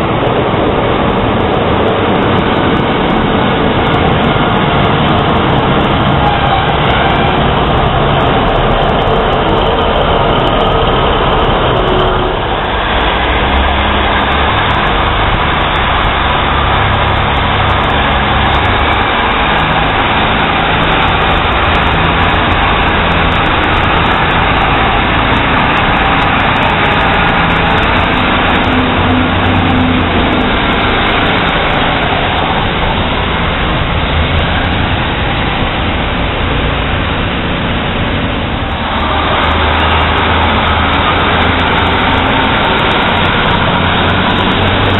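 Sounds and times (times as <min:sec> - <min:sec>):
diesel train engines: 0:00.0 - 0:44.9
wind noise on microphone: 0:00.0 - 0:44.9.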